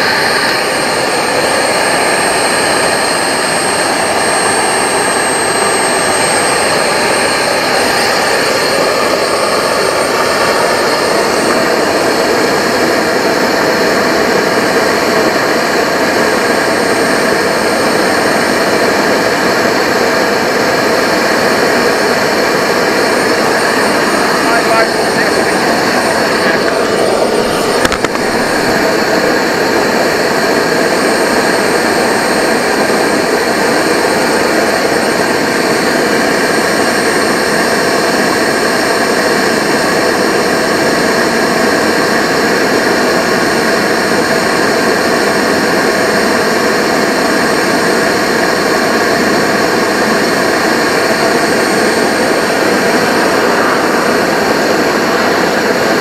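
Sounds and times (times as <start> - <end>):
model jet turbine whine: 0.0 - 56.0.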